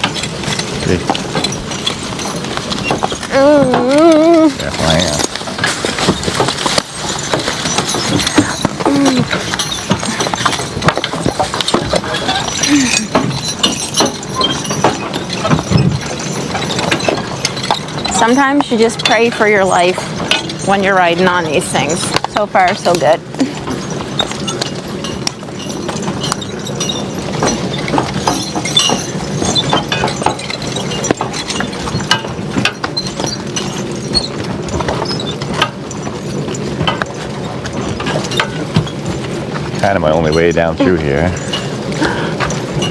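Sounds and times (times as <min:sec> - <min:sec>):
horse hooves clopping on wet trail: 0:00.0 - 0:42.9
horse-drawn rig knocking and rattling: 0:00.0 - 0:42.9.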